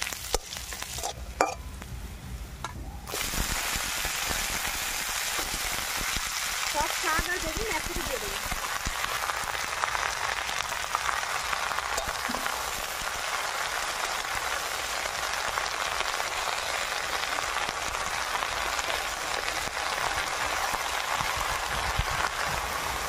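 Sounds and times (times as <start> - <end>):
greens sizzling in hot oil: 0.0 - 1.2, 3.1 - 23.0.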